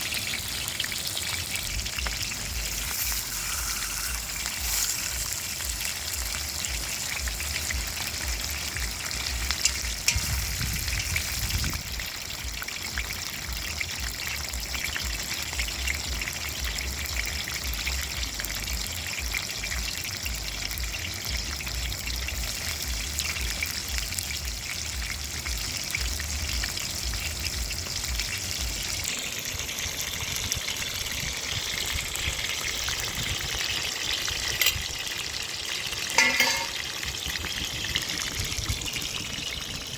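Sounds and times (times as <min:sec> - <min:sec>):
fish frying in hot oil: 0:00.0 - 0:39.9.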